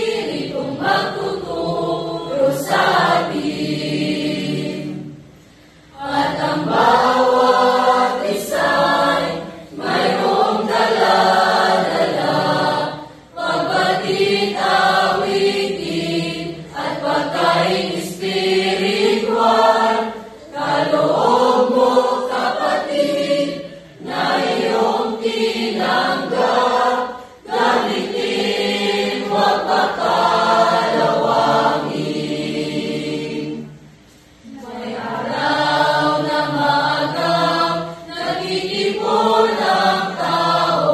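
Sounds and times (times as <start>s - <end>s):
young choir singing: 0.0s - 40.9s.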